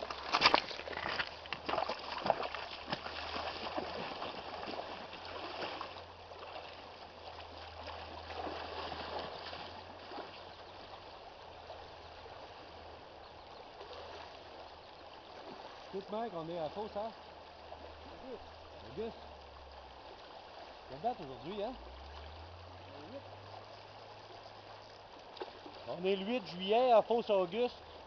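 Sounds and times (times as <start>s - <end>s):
river flowing with gurgles: 0.0s - 28.0s.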